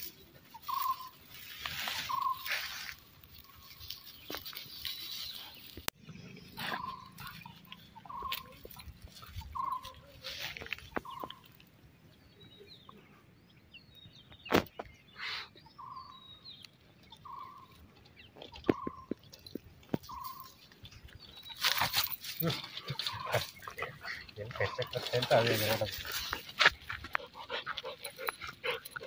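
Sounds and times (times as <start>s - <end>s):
faint bird chirping: 0.0s - 29.0s.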